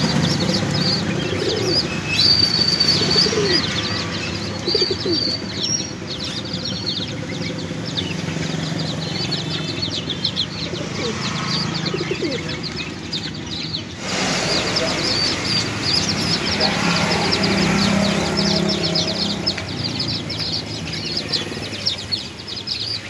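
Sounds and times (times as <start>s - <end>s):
pigeons cooing: 0.0s - 22.8s
small birds chirping: 0.0s - 23.0s.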